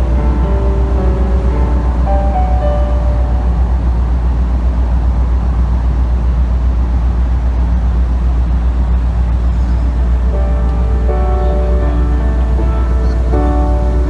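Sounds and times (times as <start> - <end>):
ship engine and hull rumble: 0.0 - 14.0.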